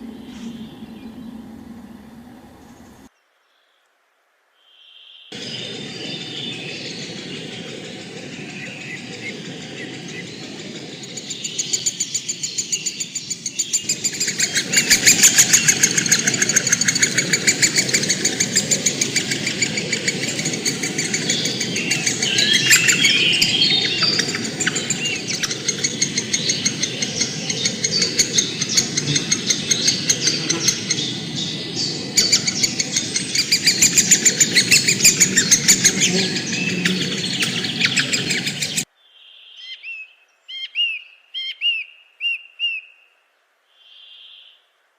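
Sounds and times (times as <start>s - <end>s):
birds chattering: 0.0s - 3.1s, 5.3s - 38.9s
whistled bird chirps: 4.7s - 43.1s.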